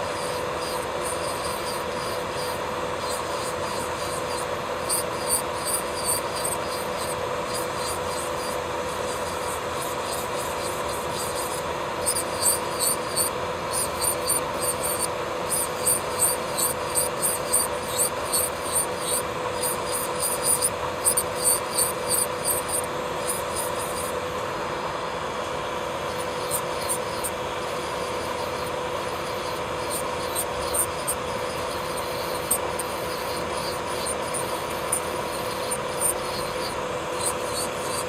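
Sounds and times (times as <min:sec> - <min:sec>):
drill bit scraping nail: 0:00.0 - 0:24.2, 0:25.5 - 0:38.0
nail drill motor hum: 0:00.0 - 0:38.0.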